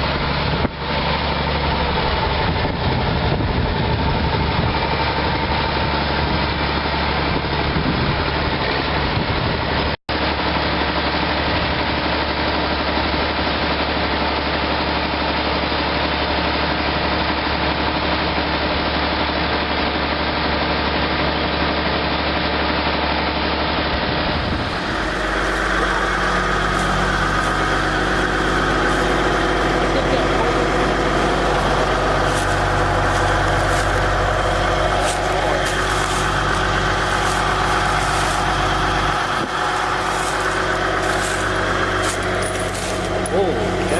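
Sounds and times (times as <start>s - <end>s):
different engine sound: 0.0s - 43.9s
tractor engine running: 0.0s - 43.9s.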